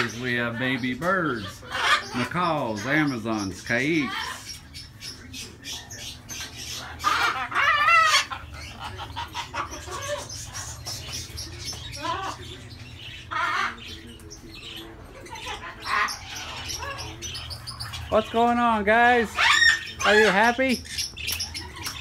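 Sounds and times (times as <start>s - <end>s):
parrots squawking and chattering: 0.0s - 22.0s.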